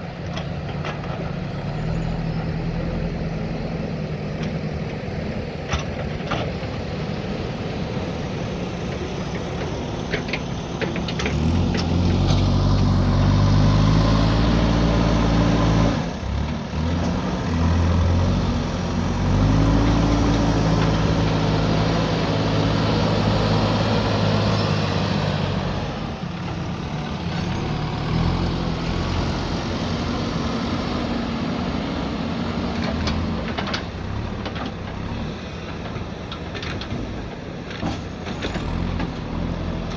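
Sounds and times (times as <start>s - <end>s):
diesel engine revving: 0.0s - 36.1s.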